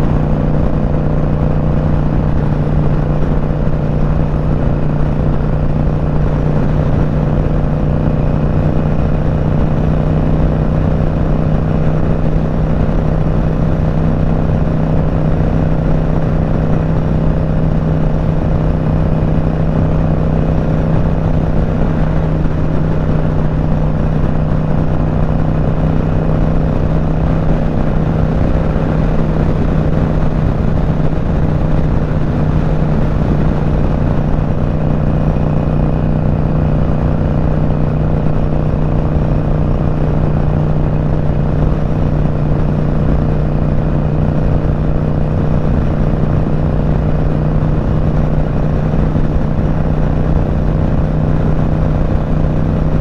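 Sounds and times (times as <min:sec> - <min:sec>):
motorcycle engine cruising: 0:00.0 - 0:53.0
wind and road noise: 0:00.0 - 0:53.0.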